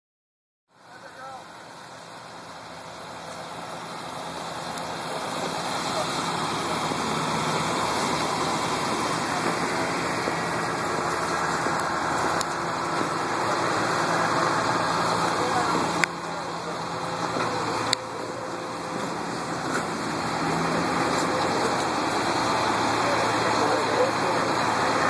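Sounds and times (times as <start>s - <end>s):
diesel engines idling: 0.7s - 25.0s
indistinct voices: 2.7s - 25.0s.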